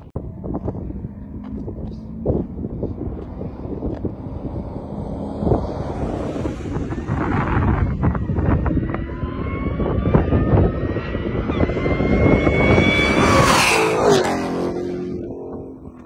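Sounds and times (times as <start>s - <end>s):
wind buffeting microphone: 0.0s - 16.0s
car engine accelerating past: 0.8s - 15.9s.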